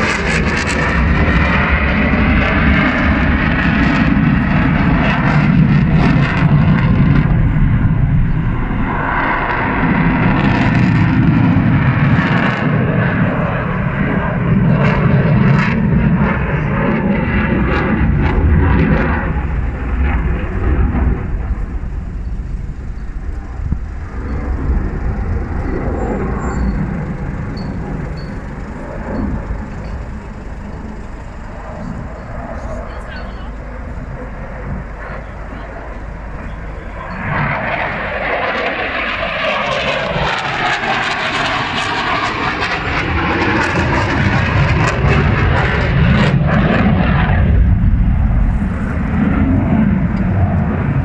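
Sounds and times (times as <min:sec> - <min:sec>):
fighter jet engine roar: 0:00.0 - 0:51.0.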